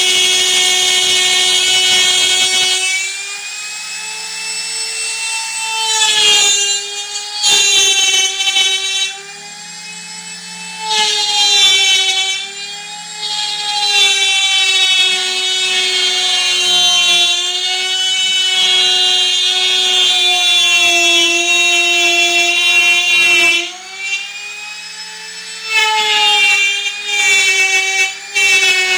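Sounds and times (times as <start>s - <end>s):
power tool motor whine cutting wood: 0.0s - 28.9s.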